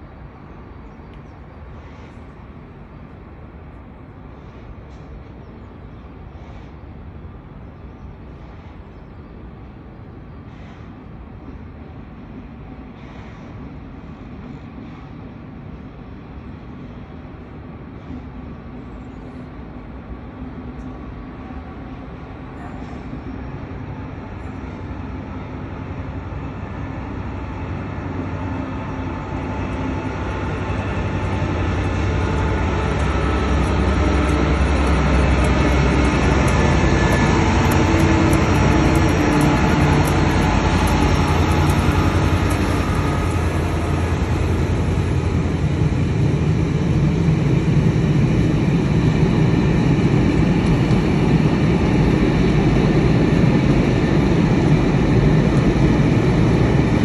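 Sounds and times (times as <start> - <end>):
diesel locomotive engine drone: 0.0 - 57.0
wagons rumbling over rails: 0.0 - 57.0.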